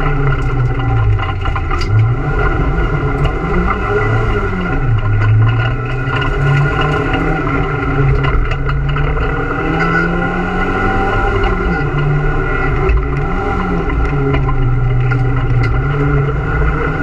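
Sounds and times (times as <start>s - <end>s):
car engine driven hard: 0.0s - 17.0s.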